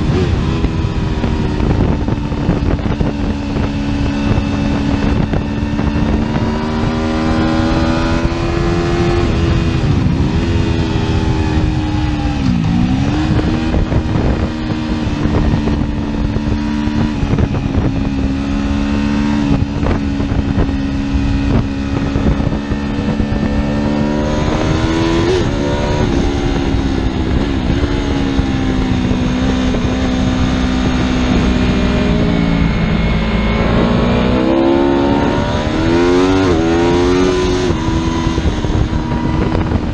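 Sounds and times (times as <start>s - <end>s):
motorcycle engine at high speed: 0.0s - 39.9s.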